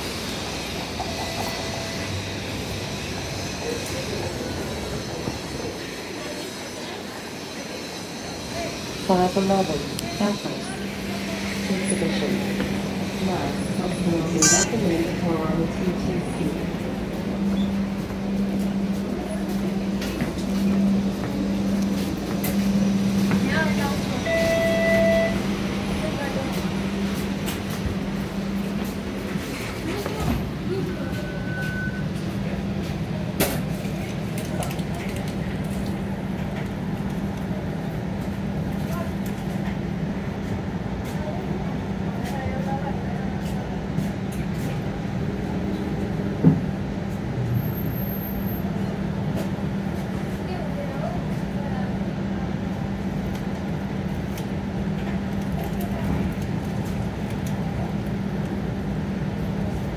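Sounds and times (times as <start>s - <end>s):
streetcar hum and running noise: 0.0s - 59.9s.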